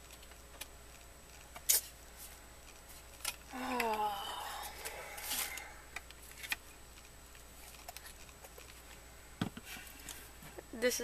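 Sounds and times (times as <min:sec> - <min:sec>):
light clicks of handled pieces: 0:00.0 - 0:09.1.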